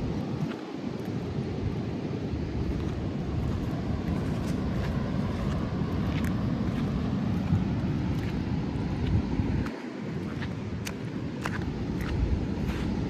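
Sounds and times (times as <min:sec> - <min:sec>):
beach surf: 0:00.0 - 0:13.0
wind buffeting microphone: 0:00.0 - 0:13.0.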